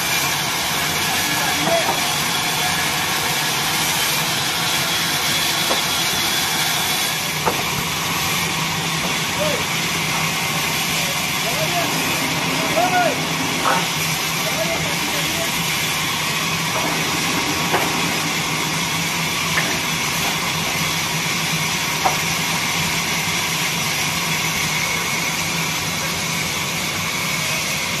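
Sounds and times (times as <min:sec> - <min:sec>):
band saw blade hissing: 0:00.0 - 0:27.7.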